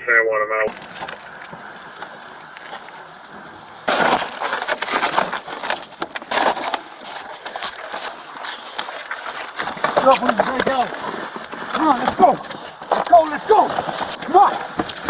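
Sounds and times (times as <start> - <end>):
footsteps crunching and rustling: 0.7 - 15.0
low steady hiss: 0.7 - 15.0.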